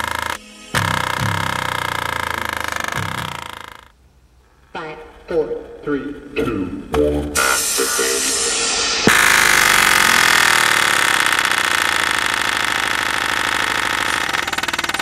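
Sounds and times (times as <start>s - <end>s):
overdriven speaker distorted buzz: 0.0s - 15.0s.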